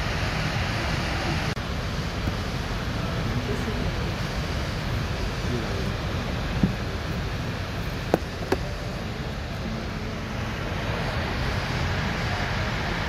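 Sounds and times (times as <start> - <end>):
airplane cabin air-conditioning: 0.0 - 13.0.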